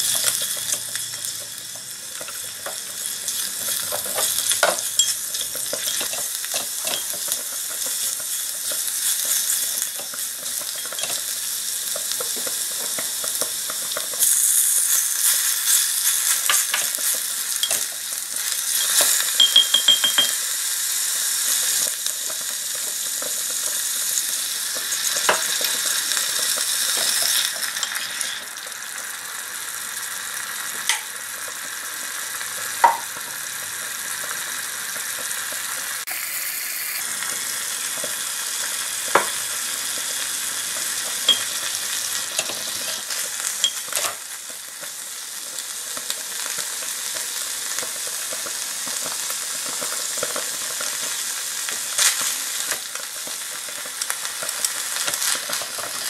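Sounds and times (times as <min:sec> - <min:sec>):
food sizzling in pot: 0:00.0 - 0:56.0.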